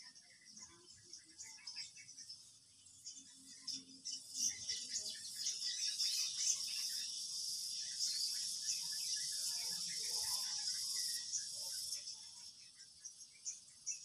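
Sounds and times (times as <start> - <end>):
insect chorus: 0.0 - 14.0
short insect chirps: 1.9 - 14.0.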